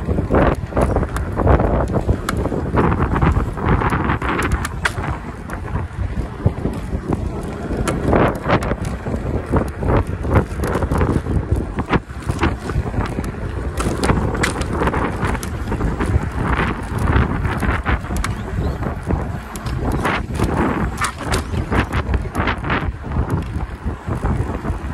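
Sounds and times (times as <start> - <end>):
wind buffeting microphone: 0.0 - 24.9
scooter knocks and rattles: 0.2 - 5.7, 6.4 - 18.8, 19.4 - 22.7.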